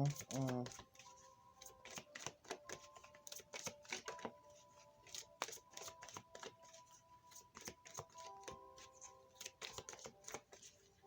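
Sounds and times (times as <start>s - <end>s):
cards being shuffled: 0.0s - 10.9s
faint background music: 0.0s - 11.0s.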